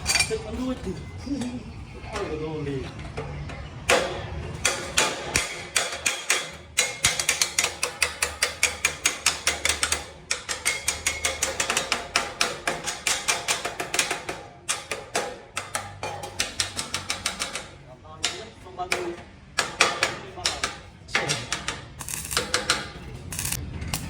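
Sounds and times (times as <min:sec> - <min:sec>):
rapid hammering: 0:03.9 - 0:24.0.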